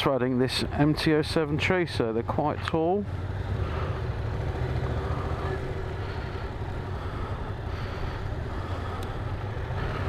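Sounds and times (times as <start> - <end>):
motorcycle engine running at low revs: 0.7 - 10.0.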